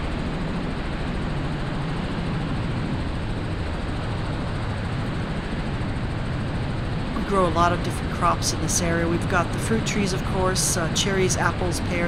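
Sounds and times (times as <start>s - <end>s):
helicopter rotor and engine drone: 0.0s - 12.0s.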